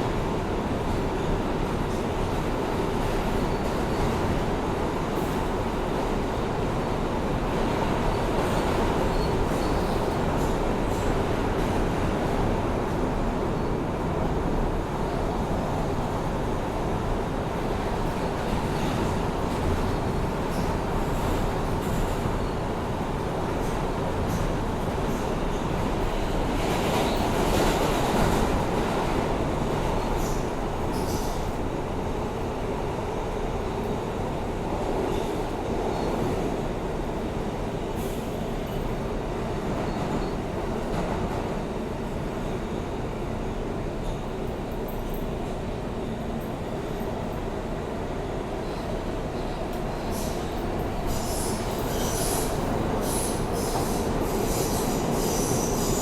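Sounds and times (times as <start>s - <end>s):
subway car wheels rumbling: 0.0s - 56.0s.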